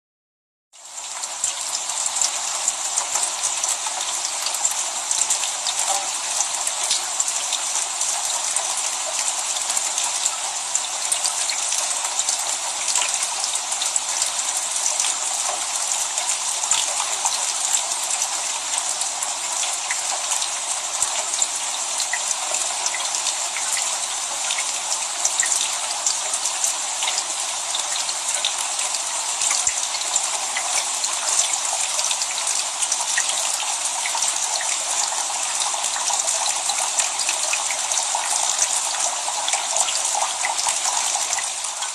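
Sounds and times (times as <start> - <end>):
steady rain: 0.8 - 41.9.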